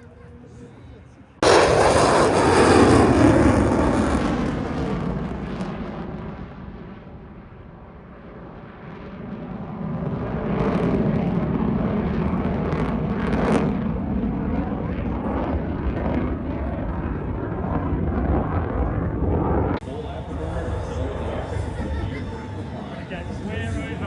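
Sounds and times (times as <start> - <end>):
aircraft engine flypast: 1.4 - 24.0.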